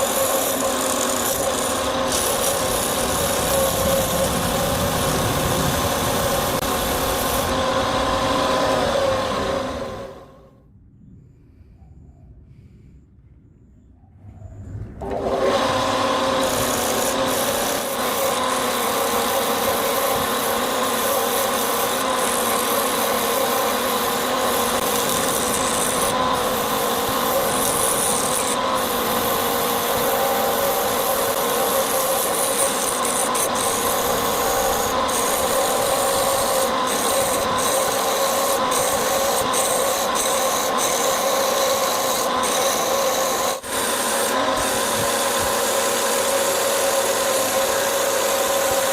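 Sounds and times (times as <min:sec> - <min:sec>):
wood lathe rasping wood: 0:00.0 - 0:10.4, 0:15.0 - 0:48.9.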